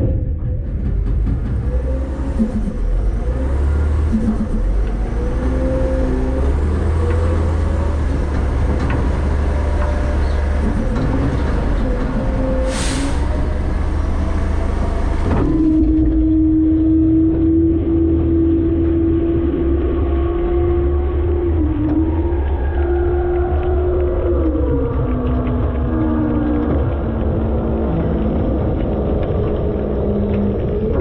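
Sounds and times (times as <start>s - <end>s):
garbage truck engine rumbling: 0.0s - 31.0s.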